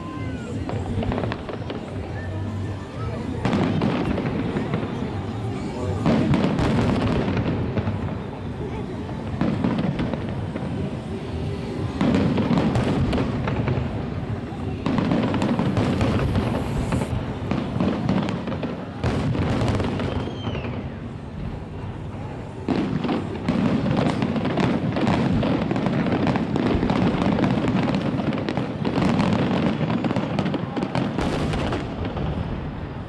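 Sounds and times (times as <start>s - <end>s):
fireworks bursts and bangs: 0.0s - 33.0s.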